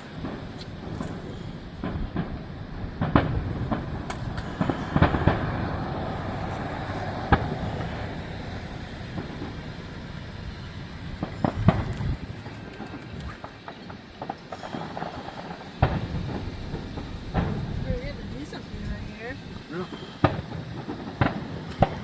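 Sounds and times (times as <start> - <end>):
distant fireworks bangs: 0.0 - 22.0.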